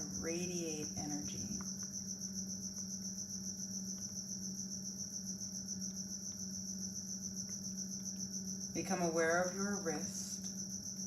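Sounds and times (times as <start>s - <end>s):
crickets trilling: 0.0s - 11.0s
low steady hum: 0.0s - 11.0s.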